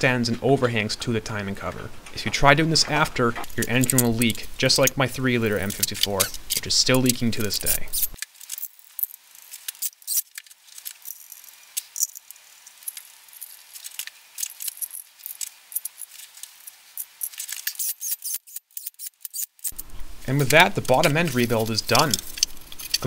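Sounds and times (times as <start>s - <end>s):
metallic clicks and rattles of tools: 3.4s - 23.0s.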